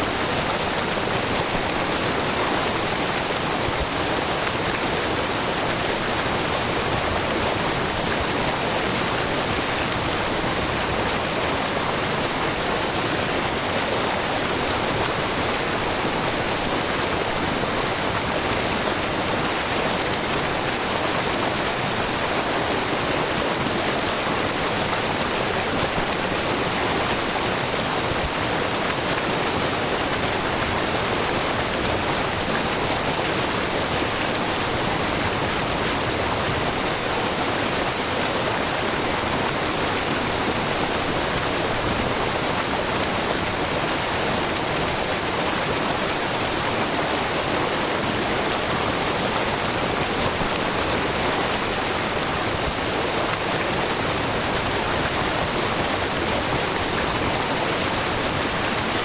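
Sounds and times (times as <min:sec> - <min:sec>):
waterfall splashing into pool: 0:00.0 - 0:59.0.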